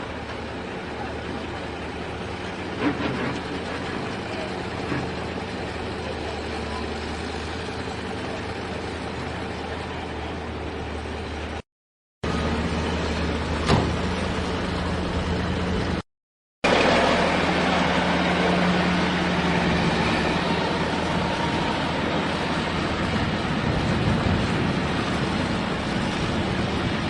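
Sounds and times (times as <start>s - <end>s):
vehicle engine running: 0.0s - 11.6s, 12.2s - 16.0s, 16.6s - 27.0s.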